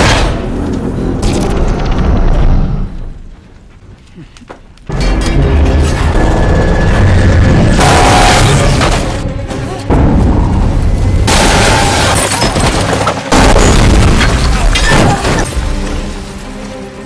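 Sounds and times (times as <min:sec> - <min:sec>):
film score music: 0:00.0 - 0:17.0.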